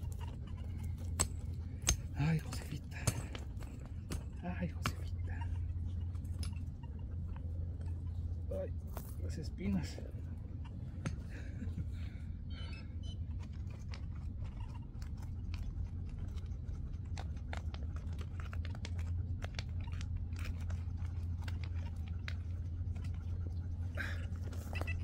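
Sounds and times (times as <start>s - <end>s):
crunches of stony ground: 0.0s - 25.0s
steady low rumble: 0.0s - 25.0s.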